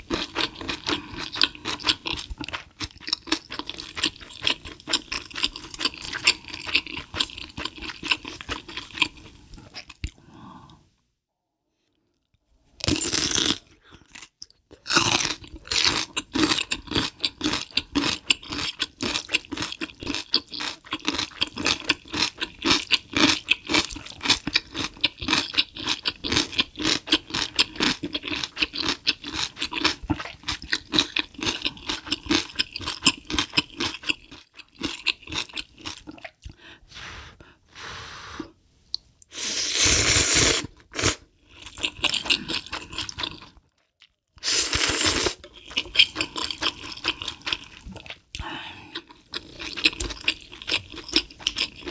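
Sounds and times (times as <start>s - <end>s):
chewing and crunching food: 0.0s - 10.3s, 12.1s - 36.7s, 40.6s - 51.9s.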